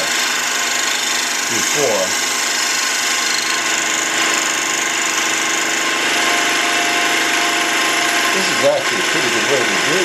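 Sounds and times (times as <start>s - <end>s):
lathe motor hum: 0.0s - 10.0s.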